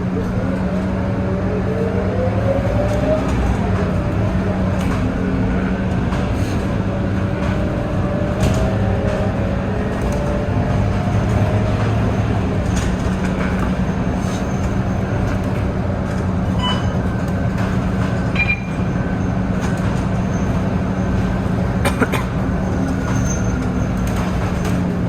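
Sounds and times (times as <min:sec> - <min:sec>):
bus engine drone: 0:00.0 - 0:25.0
squeaks and rattles from bus body: 0:02.4 - 0:25.0.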